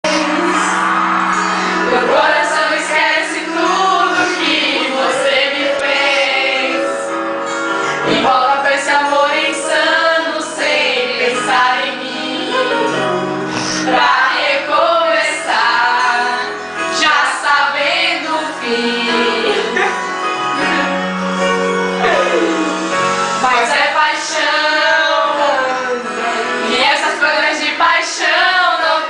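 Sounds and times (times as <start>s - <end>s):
women singing along: 0.0s - 7.2s, 8.0s - 19.9s, 23.4s - 29.0s
recorded country music: 0.0s - 29.0s.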